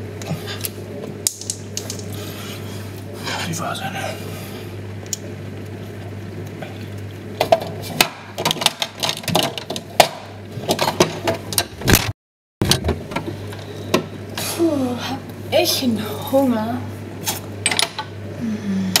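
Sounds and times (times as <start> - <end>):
fridge humming: 0.0 - 19.0.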